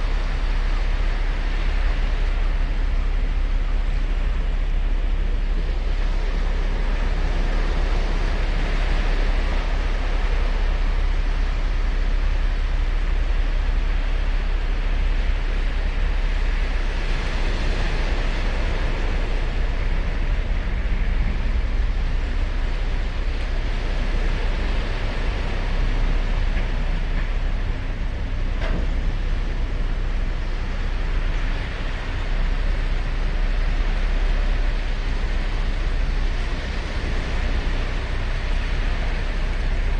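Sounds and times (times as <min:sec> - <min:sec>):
steady low rumble: 0:00.0 - 0:39.9
waves breaking on shore: 0:00.0 - 0:39.9.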